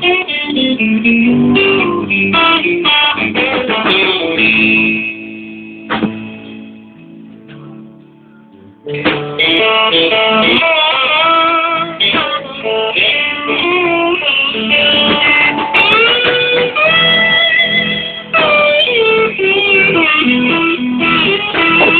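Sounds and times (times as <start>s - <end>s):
guitar bending notes: 0.0s - 21.9s
live blues band playing: 0.0s - 21.9s.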